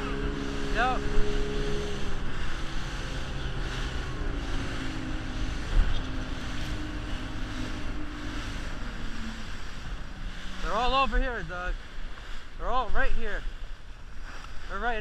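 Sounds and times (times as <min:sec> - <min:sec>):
motorboat engine drone: 0:00.0 - 0:15.0
rushing spray: 0:00.0 - 0:15.0
wind on microphone: 0:00.0 - 0:15.0.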